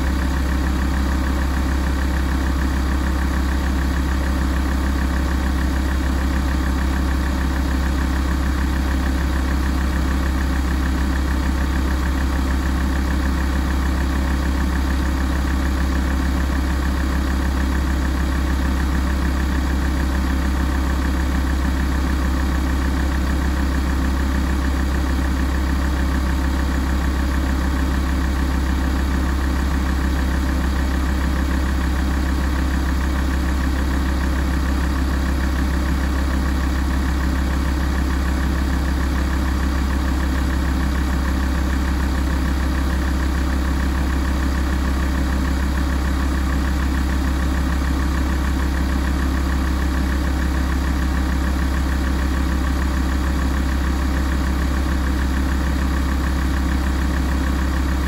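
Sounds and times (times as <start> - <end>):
diesel car engine idling: 0.0 - 58.0.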